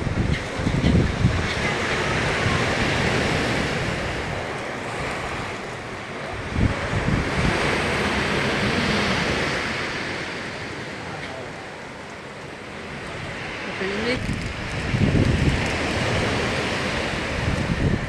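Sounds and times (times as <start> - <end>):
wind buffeting microphone: 0.0 - 10.8, 12.9 - 18.0
surf breaking and washing in: 0.0 - 18.0.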